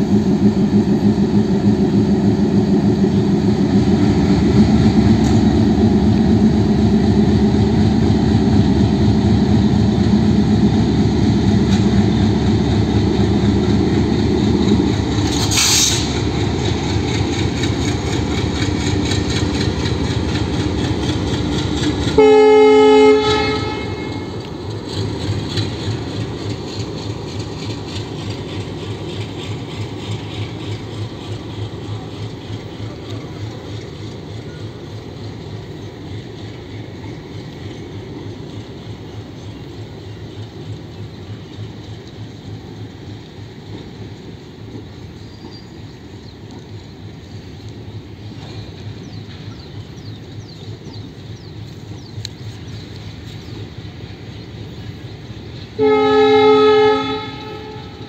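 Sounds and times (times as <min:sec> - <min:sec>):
train wheels clicking over rail joints: 0:00.0 - 0:56.3
train low rumble: 0:00.0 - 0:58.0.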